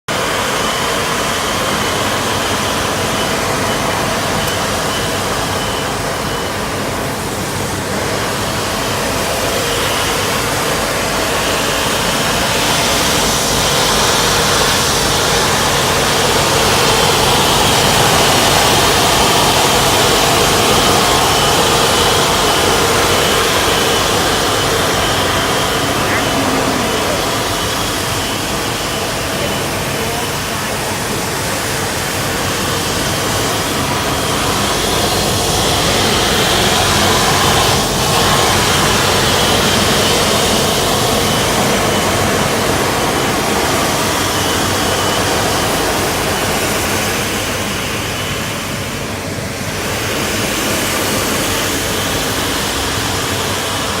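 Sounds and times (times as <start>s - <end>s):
street sweeper suction rushing: 0.1s - 54.0s.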